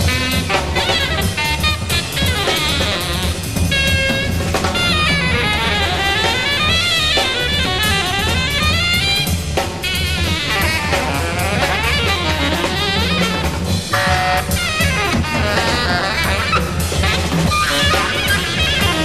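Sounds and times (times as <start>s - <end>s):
drum kit playing: 0.0s - 19.0s
horns and reeds playing: 0.0s - 19.0s
low bass: 0.0s - 19.0s.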